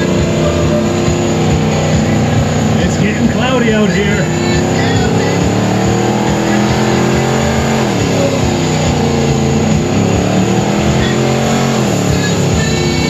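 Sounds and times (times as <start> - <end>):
car engine revving in burnout: 0.0 - 13.0.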